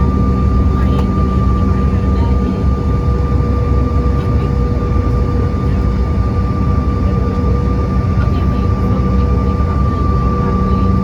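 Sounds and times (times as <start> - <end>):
airliner cabin jet engine rumble: 0.0 - 11.0.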